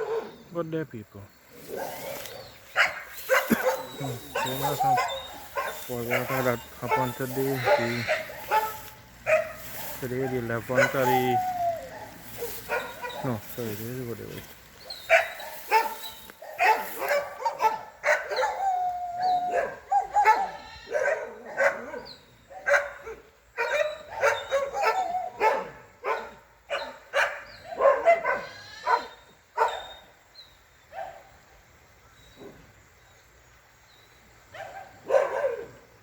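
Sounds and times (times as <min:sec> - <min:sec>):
dog barking: 0:00.0 - 0:00.4, 0:01.7 - 0:13.4, 0:14.8 - 0:30.1, 0:30.9 - 0:31.3, 0:34.5 - 0:35.9.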